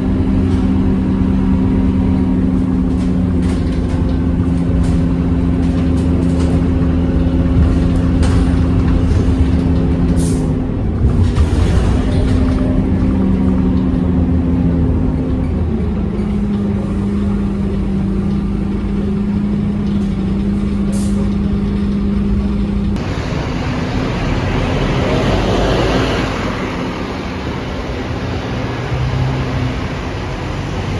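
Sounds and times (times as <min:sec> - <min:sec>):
bus engine drone: 0:00.0 - 0:30.9.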